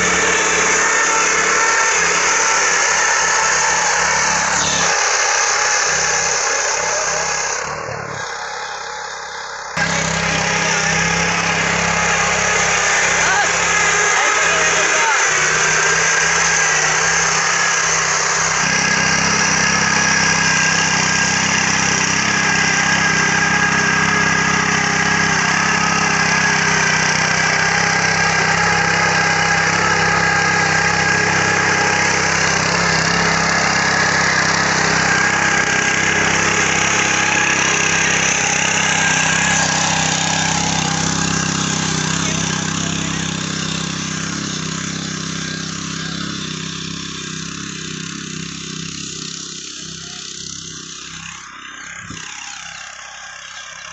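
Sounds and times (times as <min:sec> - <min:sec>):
small engine running: 0:00.0 - 0:53.9
tines churning soil: 0:00.0 - 0:53.9.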